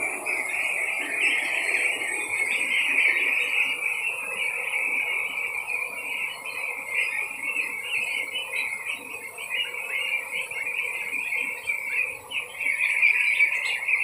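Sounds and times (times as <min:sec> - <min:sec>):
goslings peeping: 0:00.0 - 0:14.0.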